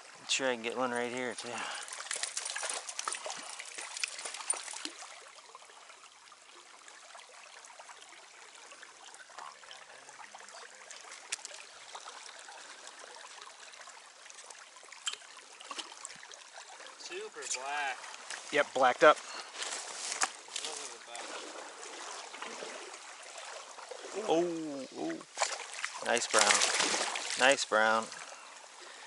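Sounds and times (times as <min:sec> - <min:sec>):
stream water trickling: 0:00.0 - 0:29.0.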